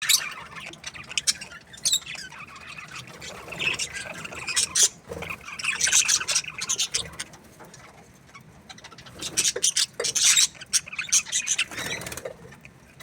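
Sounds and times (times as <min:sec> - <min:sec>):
budgerigars chattering: 0:00.0 - 0:07.4, 0:08.4 - 0:13.0.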